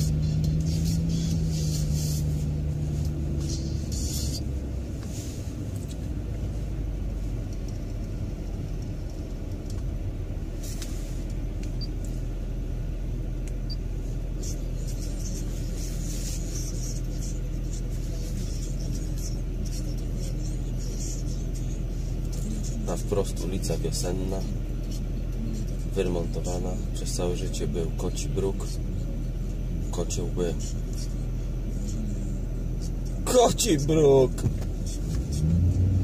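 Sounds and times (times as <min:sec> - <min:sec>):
car engine idling: 0:00.0 - 0:36.0
road rumble: 0:00.0 - 0:36.0.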